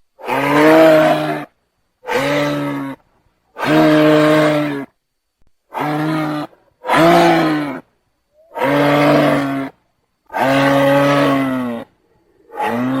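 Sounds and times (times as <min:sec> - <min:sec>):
giraffe bellowing: 0:00.2 - 0:03.0, 0:03.6 - 0:04.9, 0:05.7 - 0:07.8, 0:08.4 - 0:13.0.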